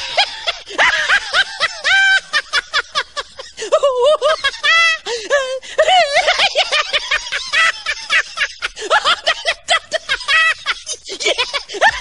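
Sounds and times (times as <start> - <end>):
person giggling and cackling: 0.0 - 12.0.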